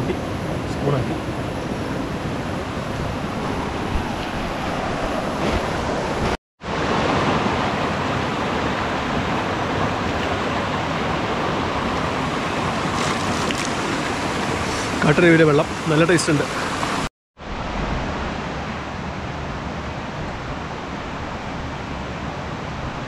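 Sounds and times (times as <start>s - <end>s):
stream rushing over rocks: 0.0s - 23.0s.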